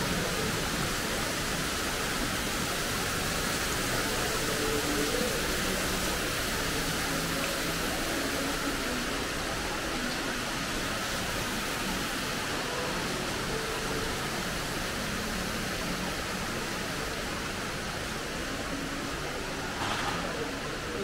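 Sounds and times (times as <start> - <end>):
faint voices of shoppers: 0.0 - 21.0
store interior rushing noise: 0.0 - 21.0.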